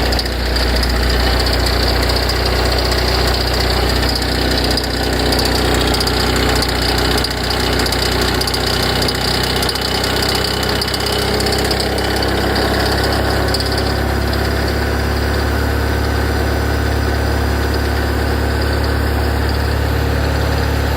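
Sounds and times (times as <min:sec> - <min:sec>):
car engine idling: 0:00.0 - 0:20.9
light regular engine ticking: 0:00.0 - 0:20.9.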